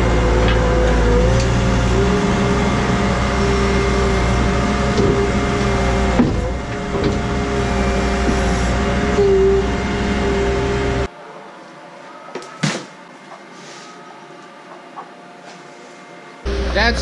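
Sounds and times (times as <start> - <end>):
loader engine running with whine: 0.0 - 11.1, 13.0 - 17.0.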